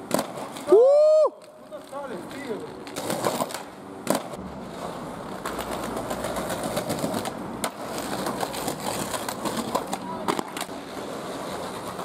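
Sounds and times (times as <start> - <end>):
skateboard clacks: 0.0 - 12.0
skateboard wheels rolling on pavement: 0.0 - 12.0.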